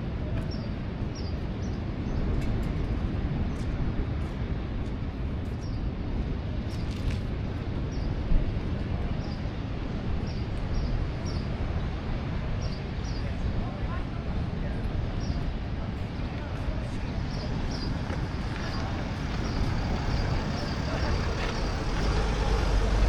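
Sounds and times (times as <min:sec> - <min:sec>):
low rumble of noise: 0:00.0 - 0:23.0.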